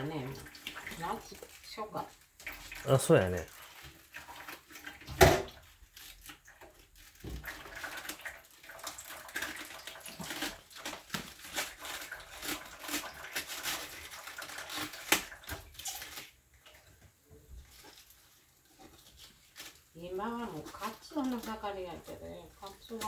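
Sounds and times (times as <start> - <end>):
hand washing noises: 0.0 - 23.0
water running and splashing: 0.0 - 23.0.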